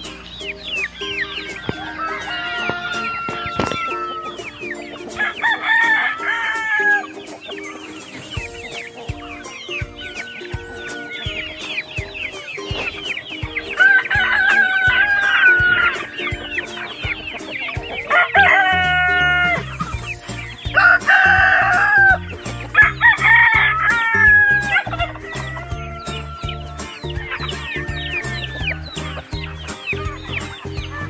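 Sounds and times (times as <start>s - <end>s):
background music with steady beat: 0.0s - 31.0s
chickens clucking and peeping: 0.0s - 31.0s
roosters crowing: 0.0s - 31.0s.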